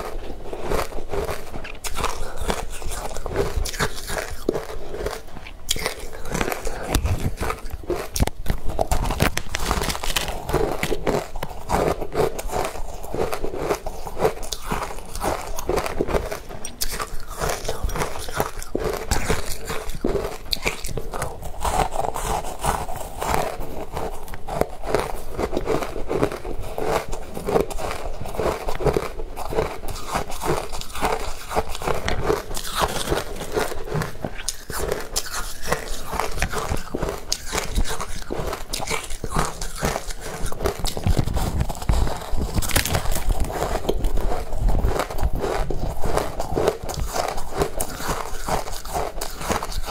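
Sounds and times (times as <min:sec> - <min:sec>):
person crunching shaved ice: 0:00.0 - 0:49.9.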